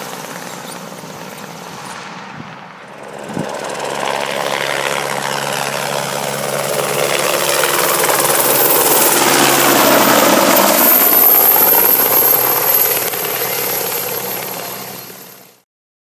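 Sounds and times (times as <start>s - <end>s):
helicopter flying overhead: 0.0s - 15.6s.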